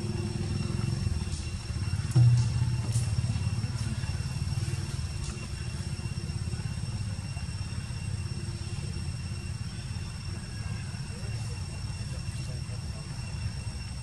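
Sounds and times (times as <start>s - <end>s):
faint high-pitched tones: 0.0s - 14.0s
fluttering engine rumble: 0.0s - 14.0s.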